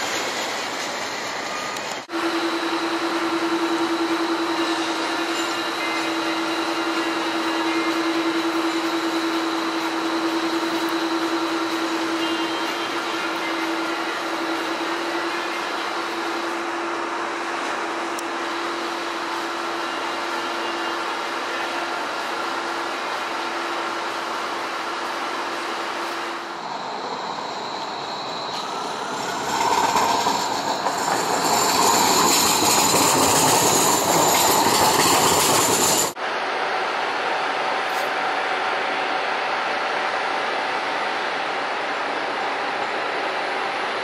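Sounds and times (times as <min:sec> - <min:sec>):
tram whining and squealing on rails: 0:00.0 - 0:44.0.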